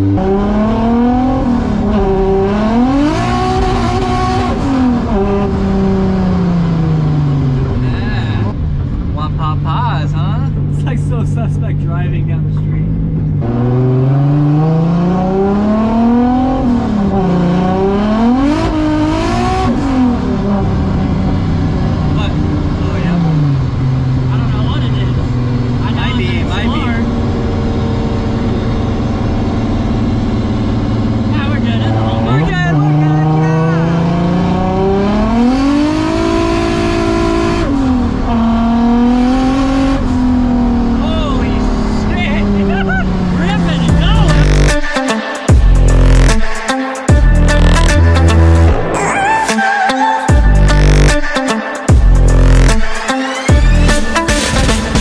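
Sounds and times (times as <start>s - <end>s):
turbocharged car engine revving: 0.0s - 49.4s, 50.3s - 55.0s.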